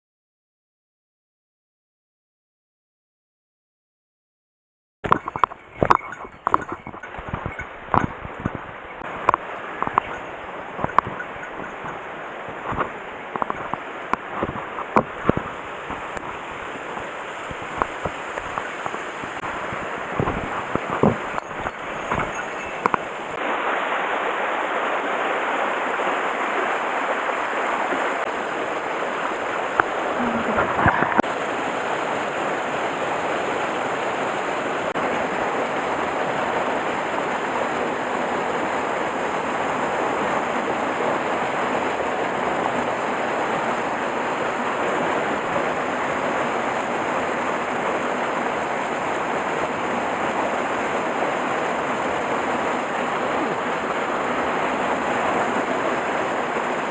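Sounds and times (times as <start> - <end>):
stream rushing over rocks: 5.0 - 56.9.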